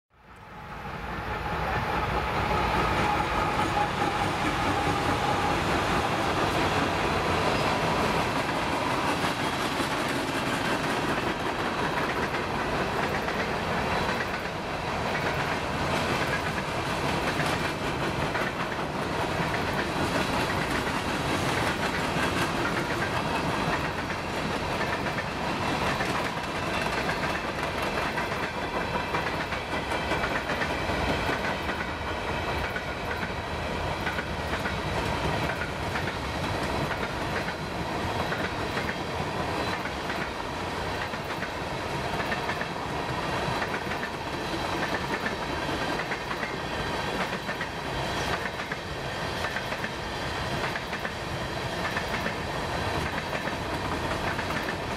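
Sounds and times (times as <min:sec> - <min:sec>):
freight train rolling past: 0:00.2 - 0:54.9.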